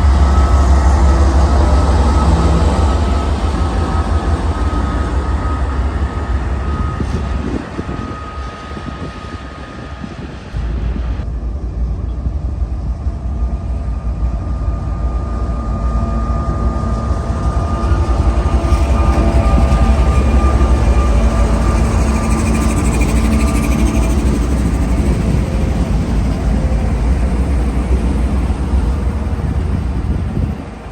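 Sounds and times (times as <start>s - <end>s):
diesel locomotive rumbling past: 0.0s - 30.9s.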